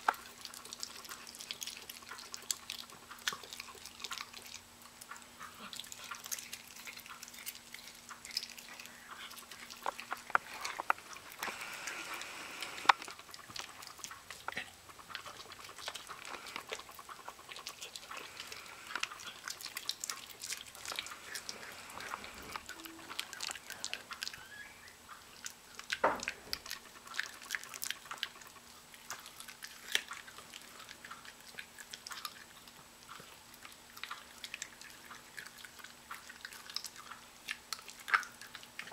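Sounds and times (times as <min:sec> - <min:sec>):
dog chewing raw chicken: 0:00.0 - 0:38.9.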